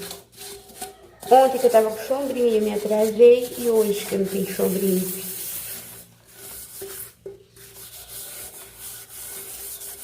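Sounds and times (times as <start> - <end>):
sponge scrubbing dishes: 0.0 - 10.0.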